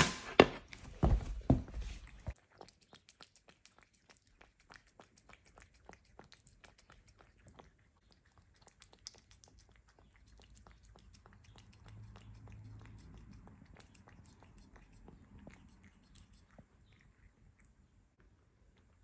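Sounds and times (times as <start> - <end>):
cat licking a plate: 0.7 - 19.0.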